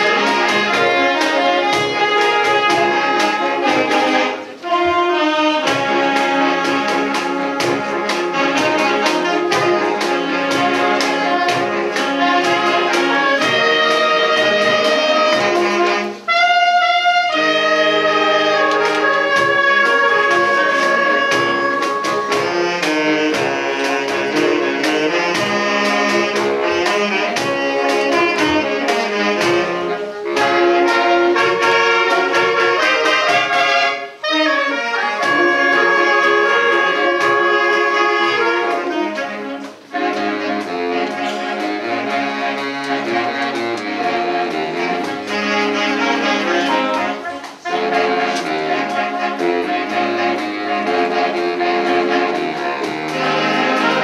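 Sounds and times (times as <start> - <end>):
saxophone ensemble playing: 0.0 - 54.0
steady beat: 0.0 - 54.0.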